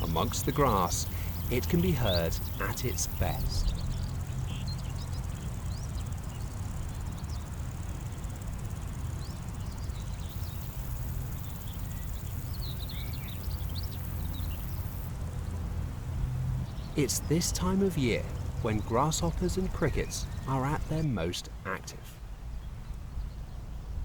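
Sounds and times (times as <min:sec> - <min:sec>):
grasshoppers and crickets buzzing: 0:00.0 - 0:21.4.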